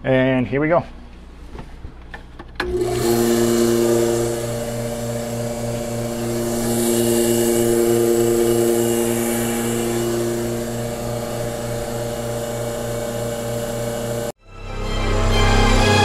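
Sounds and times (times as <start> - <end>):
vacuum pump humming and hissing: 1.2 - 14.3.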